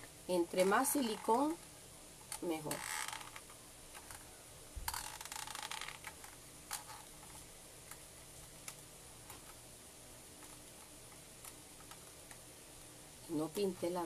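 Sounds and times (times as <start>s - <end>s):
fan hiss and hum: 0.0s - 14.0s.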